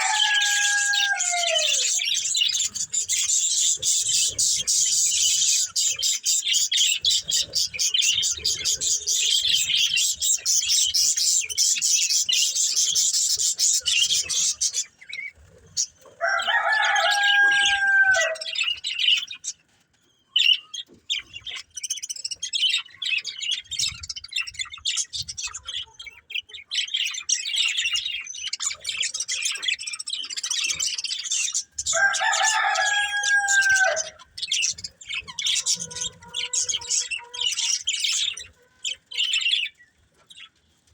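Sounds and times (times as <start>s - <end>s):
budgerigars chattering: 0.0s - 16.0s, 20.4s - 40.5s.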